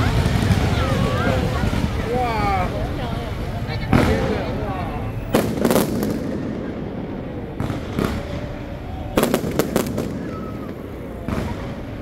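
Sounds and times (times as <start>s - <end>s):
fireworks bursting overhead: 0.0s - 12.0s.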